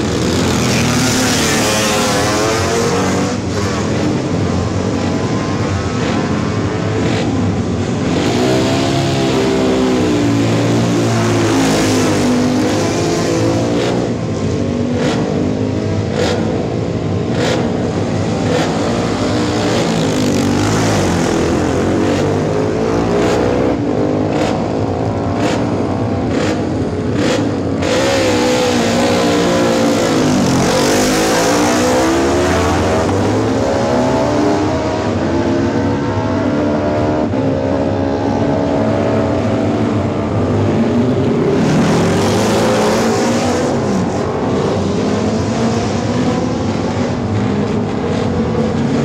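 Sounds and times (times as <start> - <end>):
motorcycles accelerating away: 0.0 - 49.0
racing motorcycles revving: 0.0 - 49.0.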